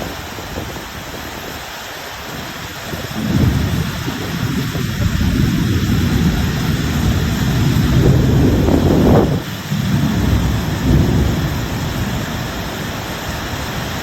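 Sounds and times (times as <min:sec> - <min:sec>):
steady rain: 0:00.0 - 0:14.0
thunder rumbling: 0:02.4 - 0:14.0.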